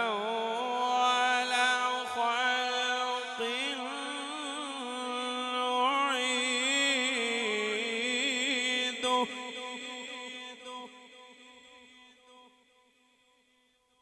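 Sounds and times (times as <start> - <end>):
man reciting melodically: 0.0 - 12.4.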